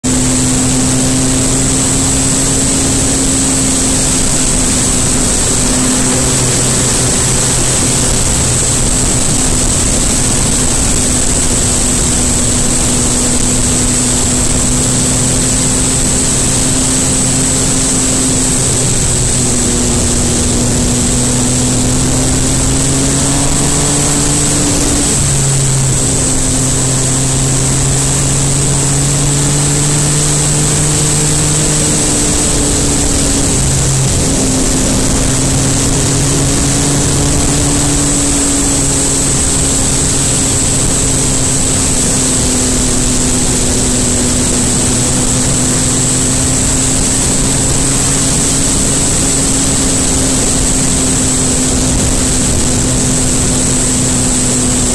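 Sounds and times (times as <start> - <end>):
motorcycle engine running: 0.0 - 54.9
wind noise: 0.0 - 54.9.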